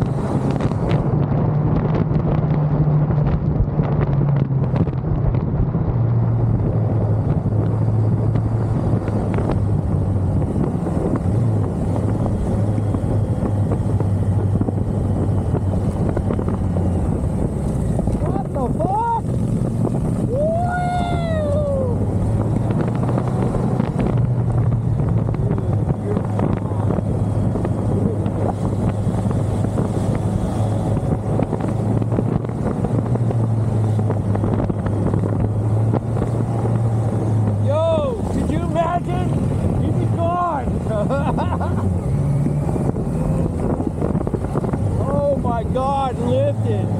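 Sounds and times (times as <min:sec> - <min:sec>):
motorcycle engine cruising: 0:00.0 - 0:46.9
road noise: 0:00.0 - 0:46.9
wind rushing over microphone: 0:00.0 - 0:46.9.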